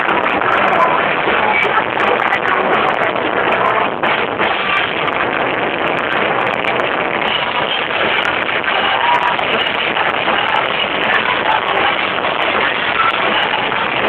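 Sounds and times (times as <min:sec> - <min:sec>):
distorted live rock band: 0:00.0 - 0:14.0.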